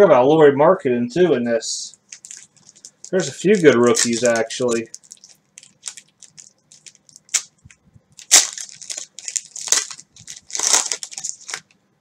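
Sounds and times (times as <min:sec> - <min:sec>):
plastic wrapper crinkling and tearing: 0:01.9 - 0:11.8.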